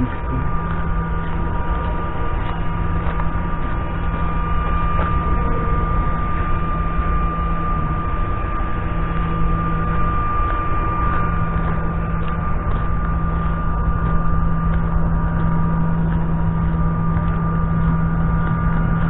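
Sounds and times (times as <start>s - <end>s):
mechanical hum: 0.0s - 19.0s
wind rumbling on microphone: 0.0s - 19.0s.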